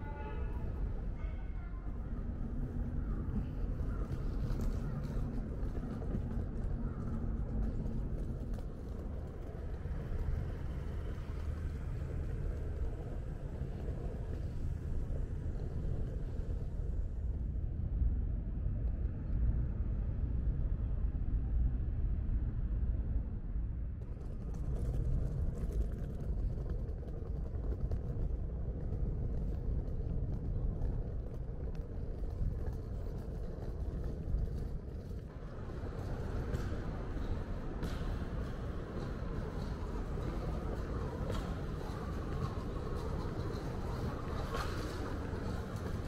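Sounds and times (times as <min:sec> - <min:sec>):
low rumble of traffic: 0:00.0 - 0:46.0.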